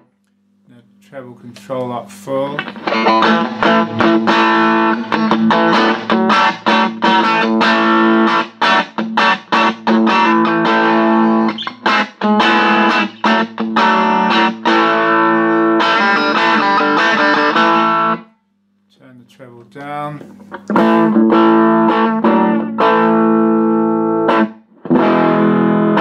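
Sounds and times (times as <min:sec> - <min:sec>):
electric guitar playing: 0:01.6 - 0:18.3, 0:20.2 - 0:26.0.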